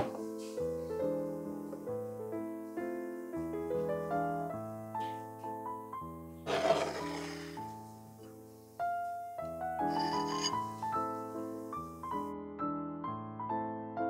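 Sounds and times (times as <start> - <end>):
gentle piano melody: 0.0 - 6.4, 7.0 - 14.0.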